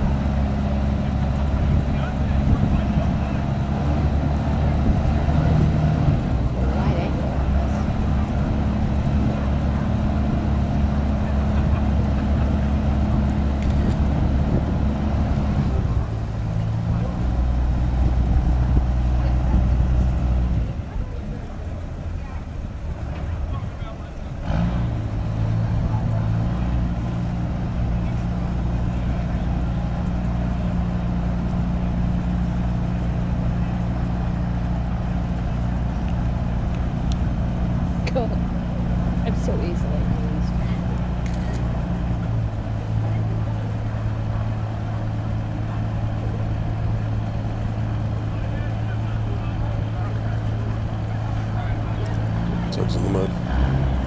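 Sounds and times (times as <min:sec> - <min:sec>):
tugboat engine droning: 0:00.0 - 0:54.0.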